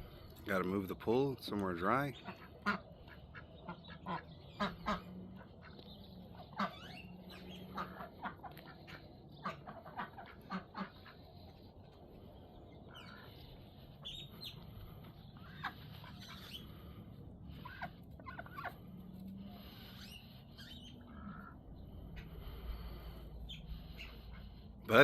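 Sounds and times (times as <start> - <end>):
birds chirping: 0.0 - 25.0
low steady background: 0.0 - 25.0.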